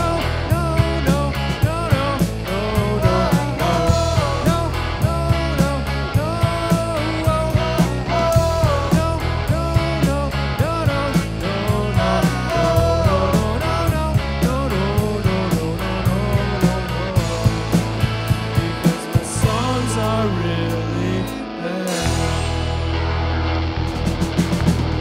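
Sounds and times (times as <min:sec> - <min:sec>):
drum kit beat: 0:00.0 - 0:20.8, 0:21.4 - 0:23.2, 0:23.8 - 0:25.0
person singing: 0:00.0 - 0:22.6
bass guitar: 0:00.0 - 0:25.0
electric guitars: 0:00.0 - 0:25.0.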